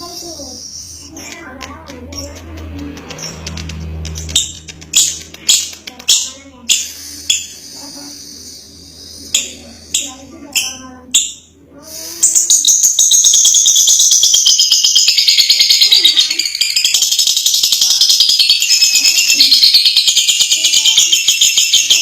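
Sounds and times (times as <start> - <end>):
bird rapid high chatter: 0.0 - 22.0.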